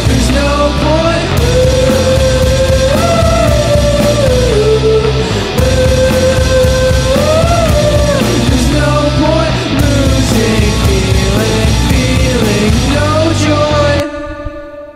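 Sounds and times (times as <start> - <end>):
loud punk rock song: 0.0 - 14.9.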